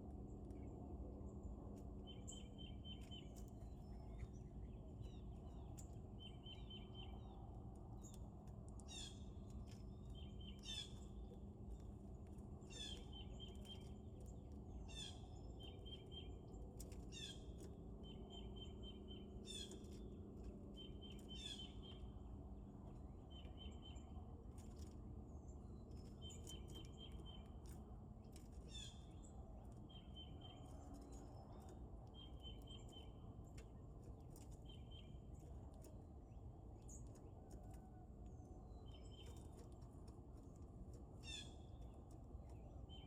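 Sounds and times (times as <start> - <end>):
faint low hum: 0.0 - 43.0
birds chirping: 1.8 - 37.8.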